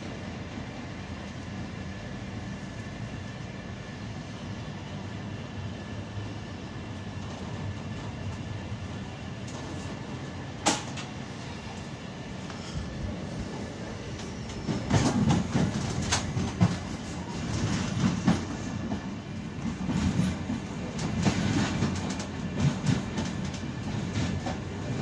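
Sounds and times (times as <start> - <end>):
train rolling rumble: 0.0 - 25.0.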